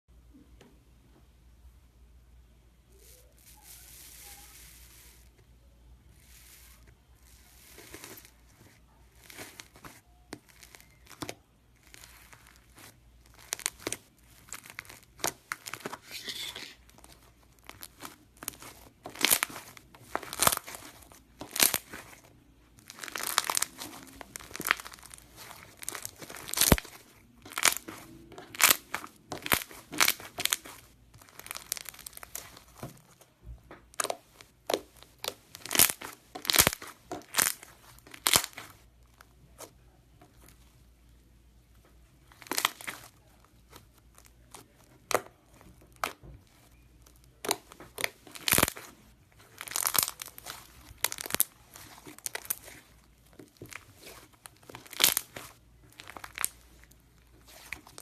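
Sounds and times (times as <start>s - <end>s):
slime crust crackling: 2.9s - 40.8s, 42.2s - 58.0s.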